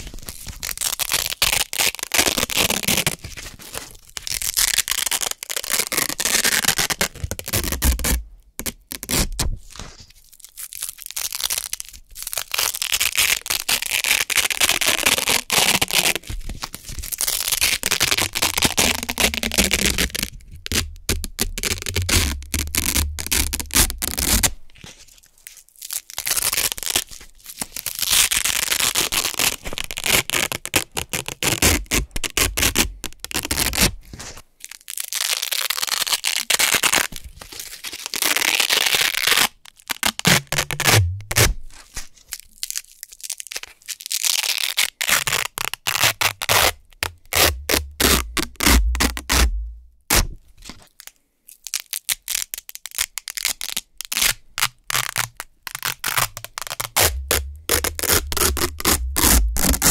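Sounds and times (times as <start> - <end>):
hook-and-loop fastener ripping: 0.0 - 59.9.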